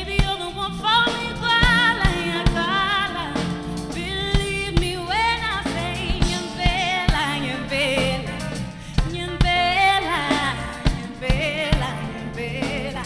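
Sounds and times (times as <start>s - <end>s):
soul-jazz band playing: 0.0s - 13.0s.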